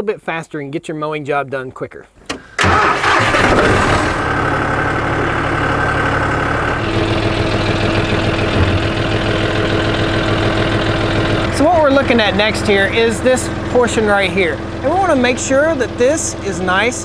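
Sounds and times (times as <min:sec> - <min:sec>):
diesel tractor engine idling: 0:02.6 - 0:17.0.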